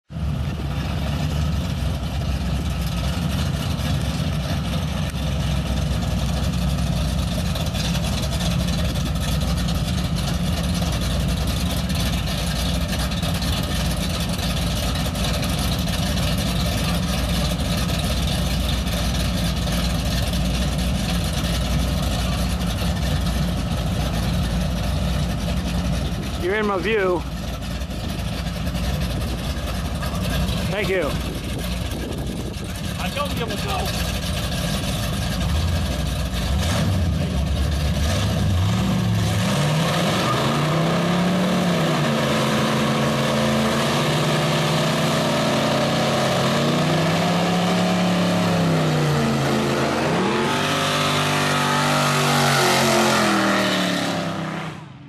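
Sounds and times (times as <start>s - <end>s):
car engines idling: 0.1s - 55.0s.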